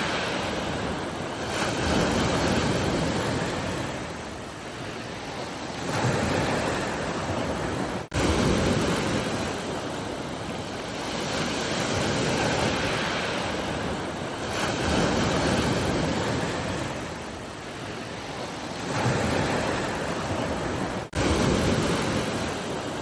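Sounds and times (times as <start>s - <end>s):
sea waves washing in: 0.0s - 23.0s.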